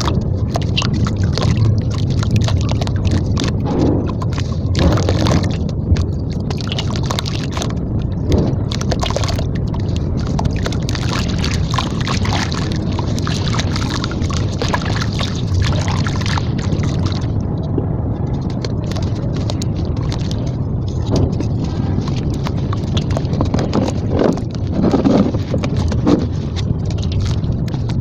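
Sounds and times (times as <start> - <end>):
gritty crackles: 0.0 - 28.0
low rumble: 0.0 - 28.0
water sloshing and splashing: 0.0 - 28.0.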